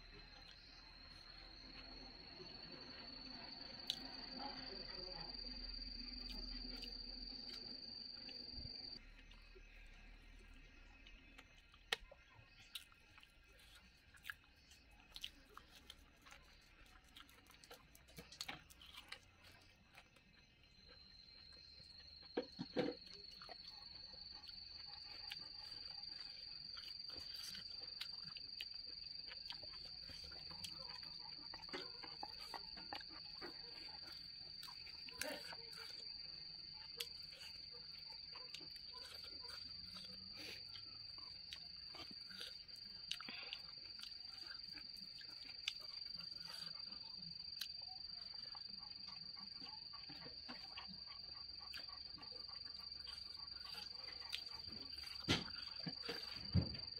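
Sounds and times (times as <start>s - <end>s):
high-pitched insect trill: 0.0s - 9.0s, 18.4s - 56.9s
close-up chewing: 0.1s - 56.9s.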